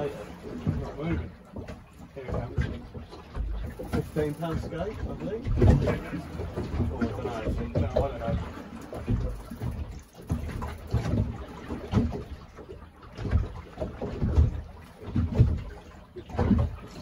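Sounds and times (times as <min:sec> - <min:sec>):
sea water lapping around boat: 0:00.0 - 0:17.0.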